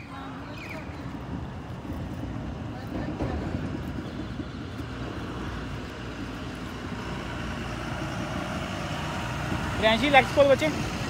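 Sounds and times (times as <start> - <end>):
roller skate wheels rumbling on bricks: 0.0 - 10.9.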